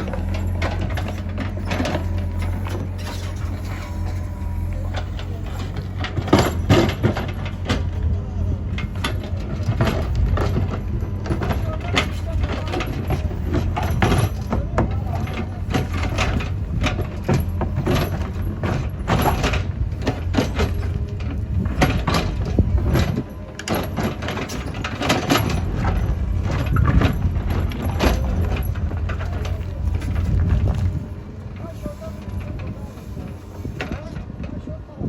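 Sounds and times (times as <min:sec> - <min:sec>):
digging gear clanking: 0:00.0 - 0:34.8
diesel engine running: 0:00.0 - 0:35.0.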